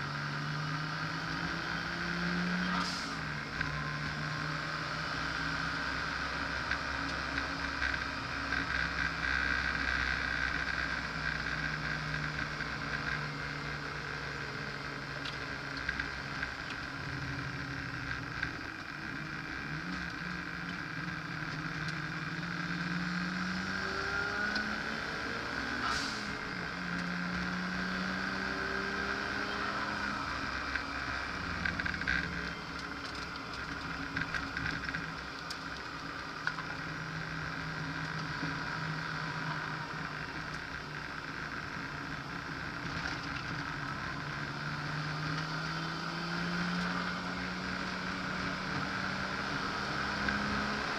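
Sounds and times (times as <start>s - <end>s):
car engine revving: 0.0s - 50.9s
wind and road noise: 0.0s - 50.9s.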